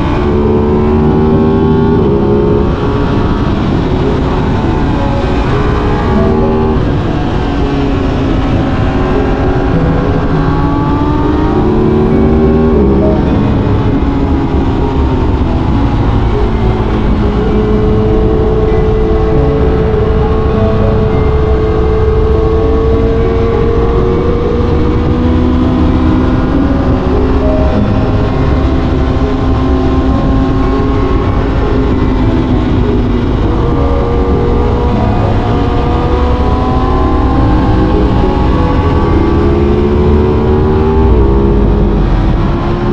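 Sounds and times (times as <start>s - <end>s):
motorcycle engine at speed: 0.0s - 42.9s
wind rush on microphone: 0.0s - 42.9s.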